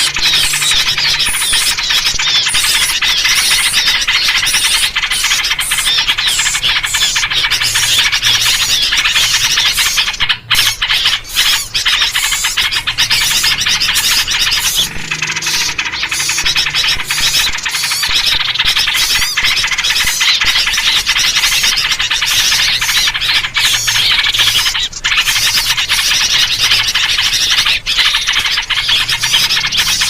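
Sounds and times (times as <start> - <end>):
songbirds chattering and chirping: 0.0 - 30.0.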